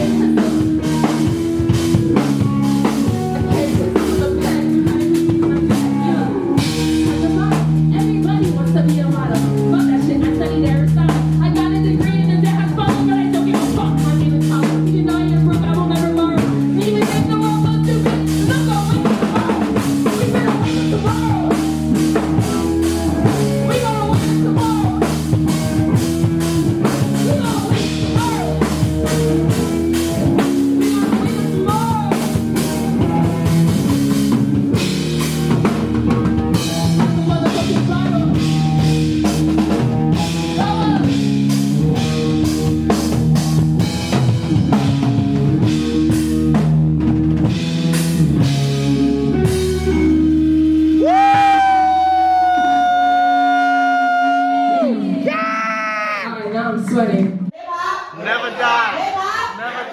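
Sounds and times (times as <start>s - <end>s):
drum kit beat: 0.0s - 56.2s
band music: 0.0s - 57.0s.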